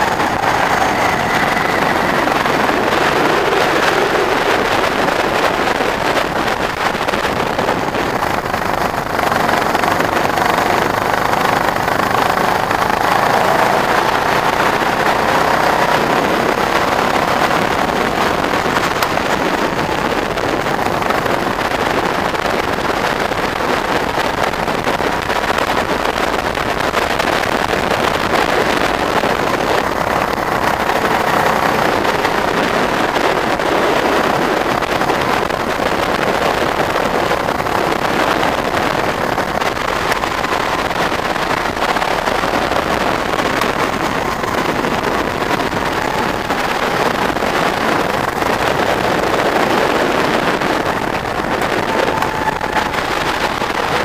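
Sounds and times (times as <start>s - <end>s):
go-kart engine drone: 0.0s - 54.0s
wind noise on microphone: 0.0s - 54.0s.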